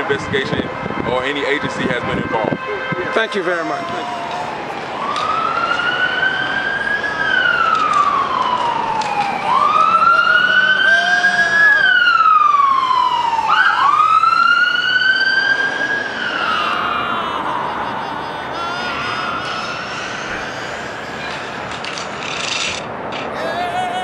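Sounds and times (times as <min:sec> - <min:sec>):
siren wailing: 0:02.1 - 0:22.3.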